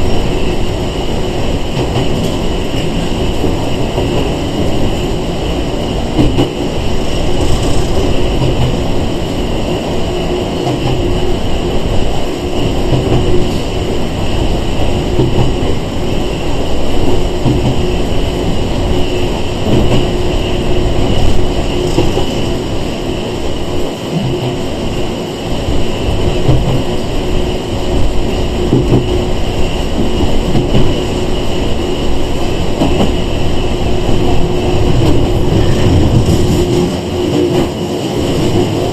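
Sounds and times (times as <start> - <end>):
electric train hum: 0.0 - 38.9.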